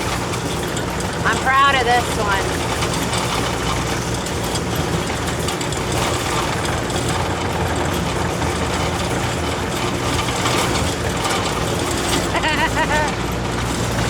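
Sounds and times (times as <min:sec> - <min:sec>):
loader diesel engine running: 0:00.0 - 0:14.0.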